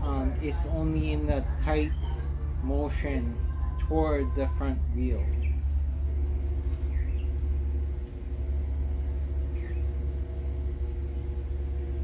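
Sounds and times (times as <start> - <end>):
motor vehicle rumble: 0.0 - 12.0
steady hum: 0.0 - 12.0.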